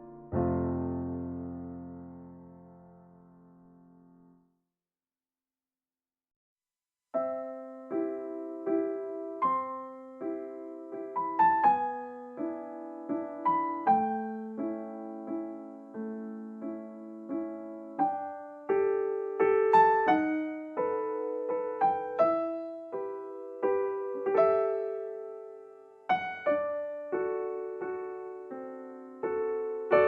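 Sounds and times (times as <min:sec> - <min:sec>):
gentle piano music: 0:00.0 - 0:04.5, 0:07.2 - 0:30.0.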